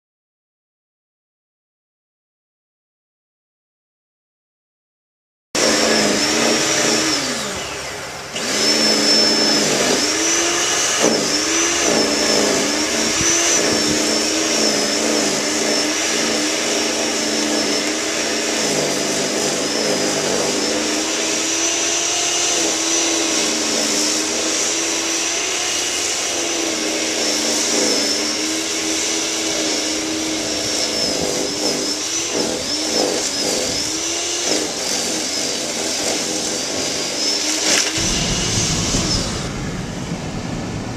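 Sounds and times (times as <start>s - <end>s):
snow thrower motor whining: 5.6s - 40.9s.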